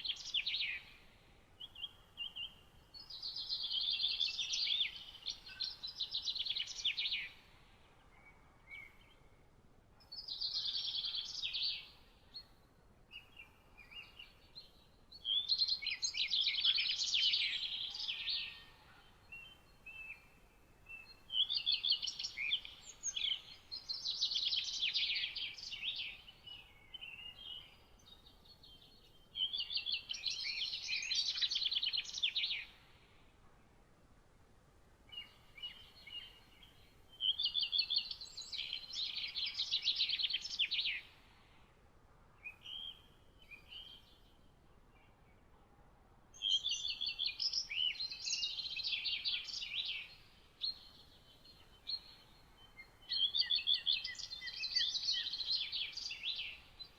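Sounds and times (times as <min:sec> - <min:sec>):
songbird singing: 0:00.0 - 0:33.7, 0:34.9 - 0:56.9
faint steady hiss: 0:00.0 - 0:56.9.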